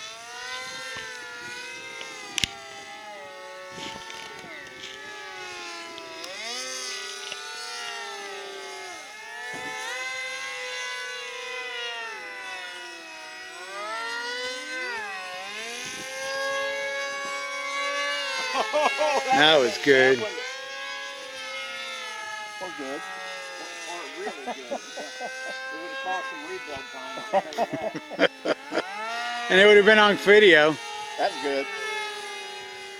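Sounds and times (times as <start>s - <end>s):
model airplane motors whining: 0.0s - 32.9s.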